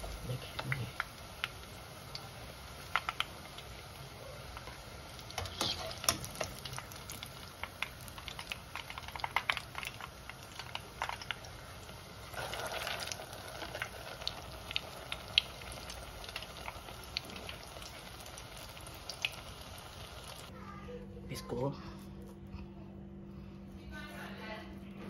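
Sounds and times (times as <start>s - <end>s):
meat sizzling in hot oil: 0.0s - 20.5s
oil crackling and popping: 0.0s - 20.5s.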